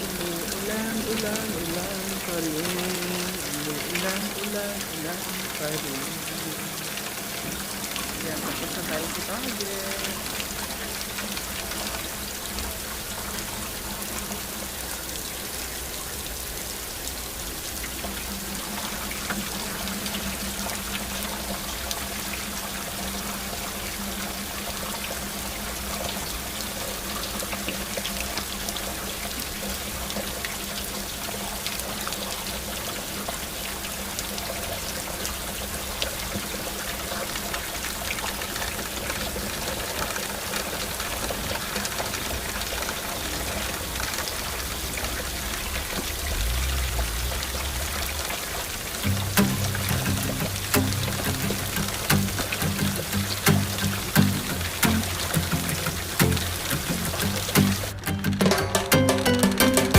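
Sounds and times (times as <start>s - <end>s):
water pouring and trickling: 0.0s - 58.2s
steady rain falling: 0.0s - 59.9s.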